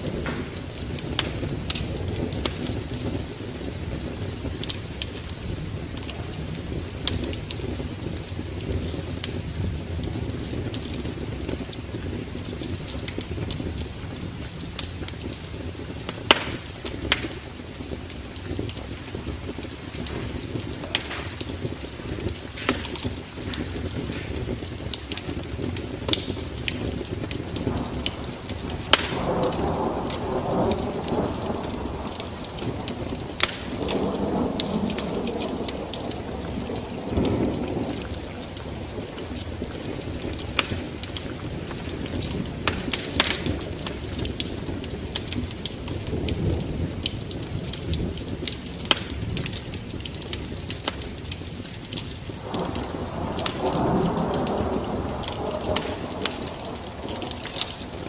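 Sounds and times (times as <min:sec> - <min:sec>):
low rushing of flames: 0:00.0 - 0:58.0
wood fire crackling and popping: 0:00.0 - 0:58.0.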